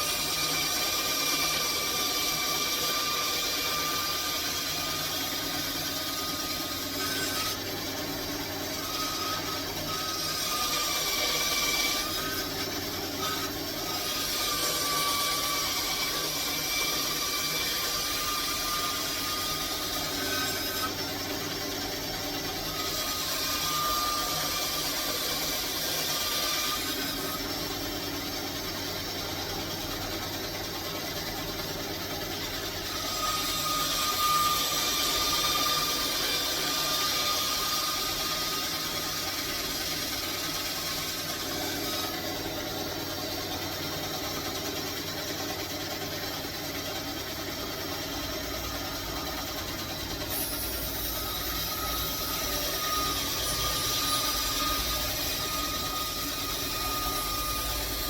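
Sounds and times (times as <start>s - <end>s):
power tool grinding wood: 0.0s - 58.0s.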